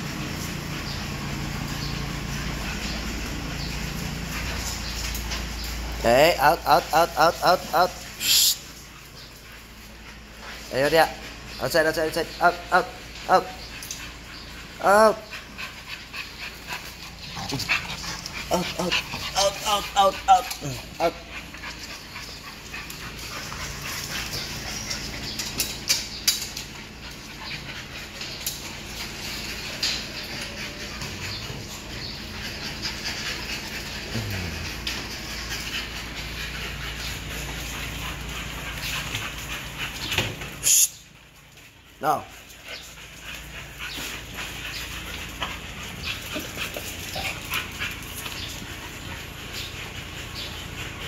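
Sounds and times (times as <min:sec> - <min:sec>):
puppies scuffling on concrete: 0:00.0 - 0:51.0.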